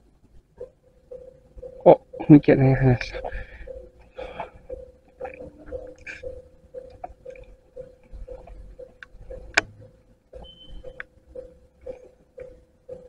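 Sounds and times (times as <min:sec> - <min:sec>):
level-crossing alarm ringing: 0:00.8 - 0:13.0.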